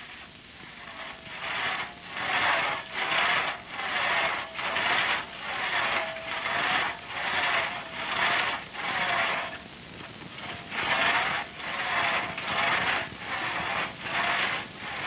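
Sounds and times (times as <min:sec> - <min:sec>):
handsaw cutting wood: 0:00.8 - 0:09.7, 0:10.4 - 0:15.0.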